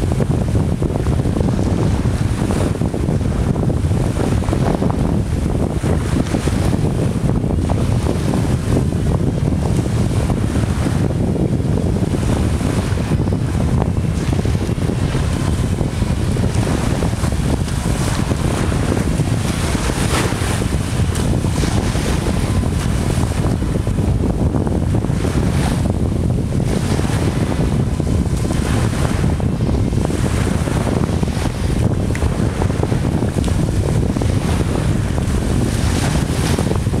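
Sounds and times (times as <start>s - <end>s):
choppy sea: 0.0s - 37.0s
wind buffeting microphone: 0.0s - 37.0s.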